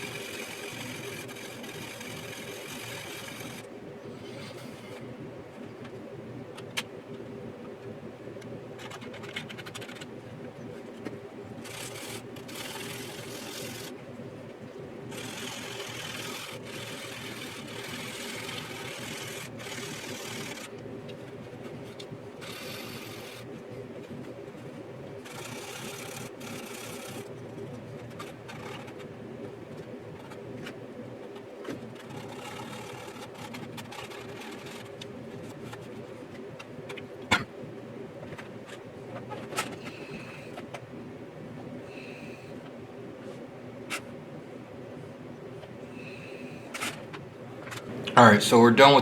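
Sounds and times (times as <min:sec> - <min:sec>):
machine hum with held tone: 0:00.0 - 0:49.0.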